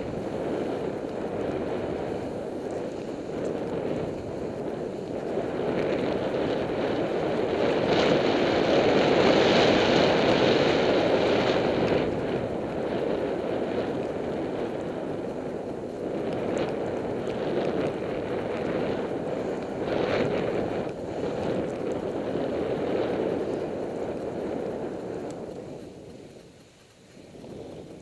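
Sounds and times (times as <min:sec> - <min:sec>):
skis sliding over snow: 0:00.0 - 0:28.0
wind on microphone: 0:00.0 - 0:28.0.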